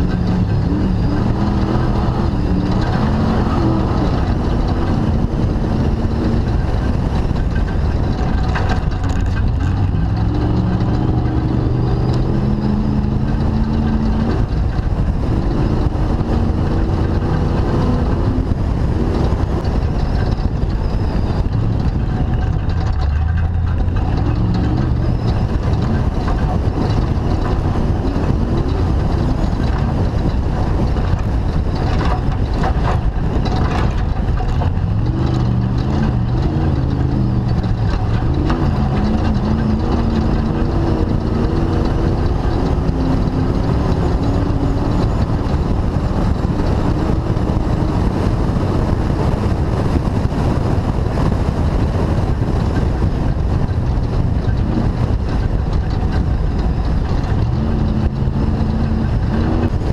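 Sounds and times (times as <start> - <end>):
constant rush of noise: 0.0 - 59.9
race car engine revving: 0.0 - 59.9.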